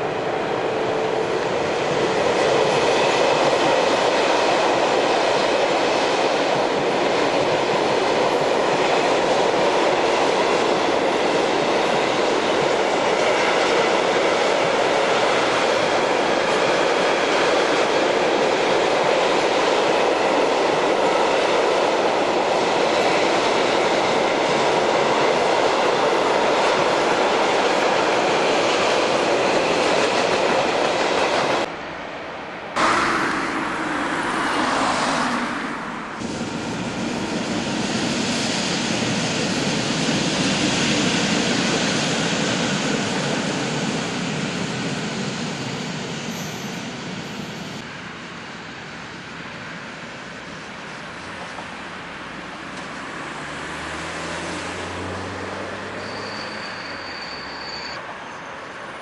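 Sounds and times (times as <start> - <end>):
freight train wheels rumbling on rails: 0.0 - 31.8, 32.8 - 57.8.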